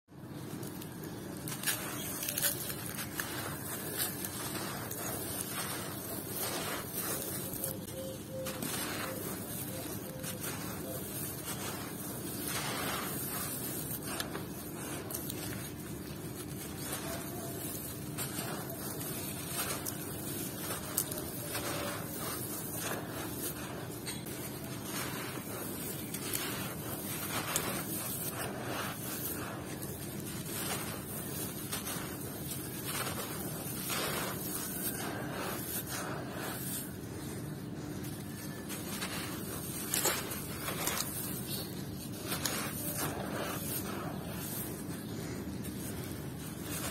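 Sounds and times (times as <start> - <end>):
sand and gravel crunching in hands: 0.1 - 46.9
grains trickling through fingers: 0.2 - 46.9.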